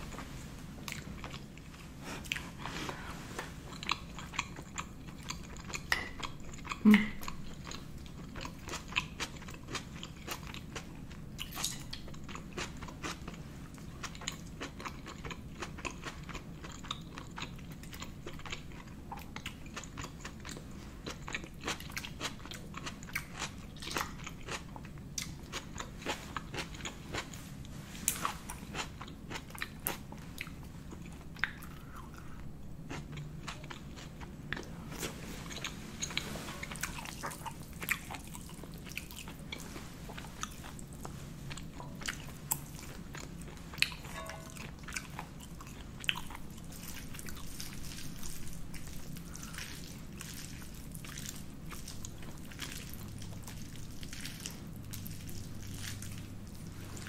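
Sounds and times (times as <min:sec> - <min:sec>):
chewing with wet smacks: 0:00.1 - 0:57.0.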